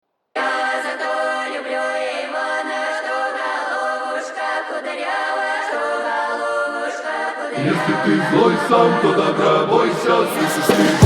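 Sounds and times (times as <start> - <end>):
choir singing held notes: 0.4 - 11.0.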